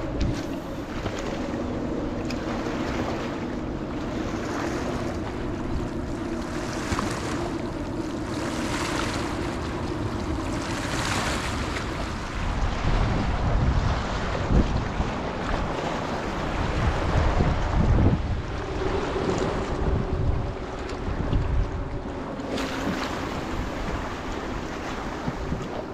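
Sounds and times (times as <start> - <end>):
steady low drone: 0.0 - 25.9
water lapping along shore: 0.0 - 25.9
wind buffeting microphone: 0.0 - 25.9.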